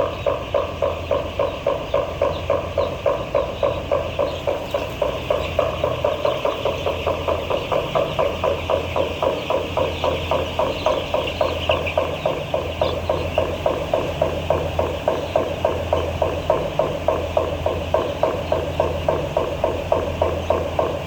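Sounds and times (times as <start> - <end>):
machine pulsing rhythmically: 0.0 - 21.0
steady low hum: 0.0 - 21.0.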